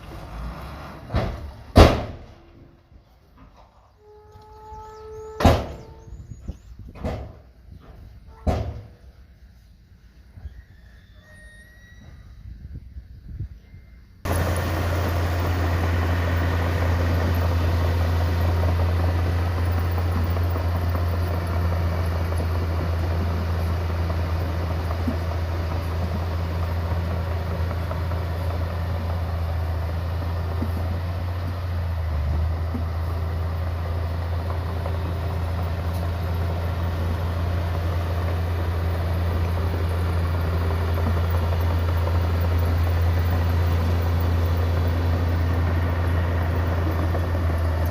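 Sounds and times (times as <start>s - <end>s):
heavy machinery diesel engine droning: 0.0s - 9.3s, 14.0s - 47.9s.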